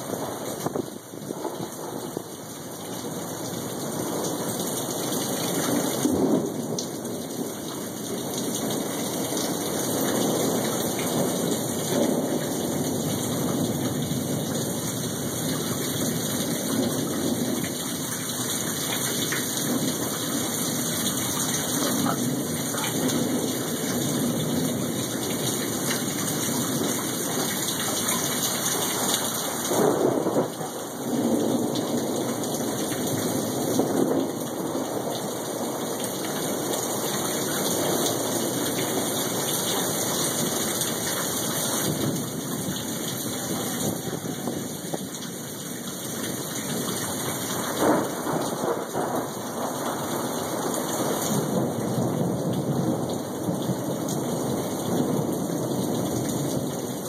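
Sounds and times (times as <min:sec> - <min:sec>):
steady rain: 0:00.0 - 0:57.0
thunder rumbling: 0:00.0 - 0:57.0.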